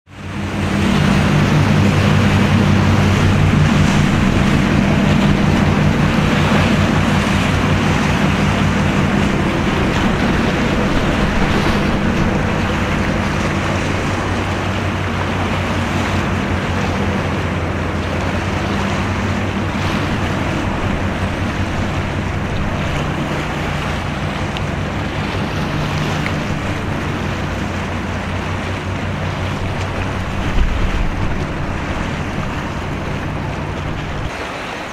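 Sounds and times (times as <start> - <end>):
moving water: 0.1 - 34.9
ship engine drone: 0.1 - 34.9
wind on microphone: 0.2 - 34.9.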